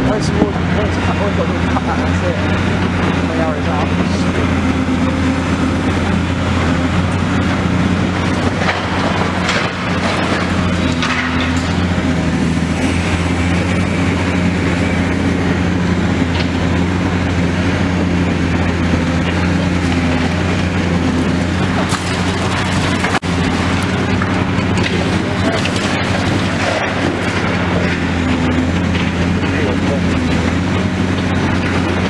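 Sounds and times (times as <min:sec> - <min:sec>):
demolition cracks and knocks: 0:00.0 - 0:32.0
excavator diesel engine running: 0:00.0 - 0:32.0.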